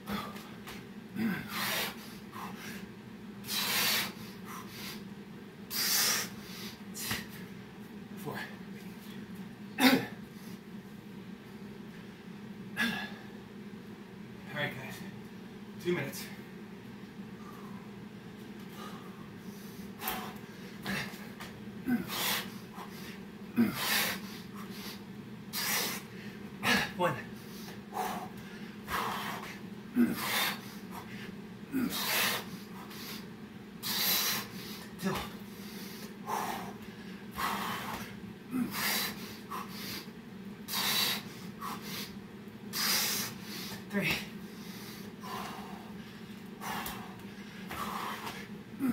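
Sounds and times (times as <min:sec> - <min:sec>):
man breathing heavily: 0:00.0 - 0:05.1, 0:05.7 - 0:07.6, 0:08.2 - 0:08.7, 0:11.8 - 0:13.4, 0:17.3 - 0:48.9
steady low hum: 0:00.0 - 0:48.9.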